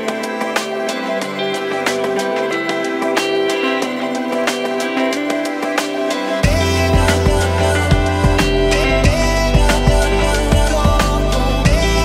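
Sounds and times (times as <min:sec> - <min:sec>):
plucked guitar notes: 0:00.0 - 0:12.0
sustained tones: 0:00.0 - 0:12.0.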